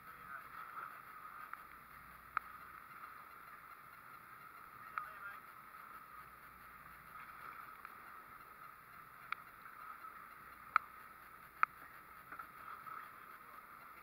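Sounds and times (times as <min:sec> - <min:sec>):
water washing around boat: 0:00.0 - 0:14.0
wind: 0:00.0 - 0:14.0.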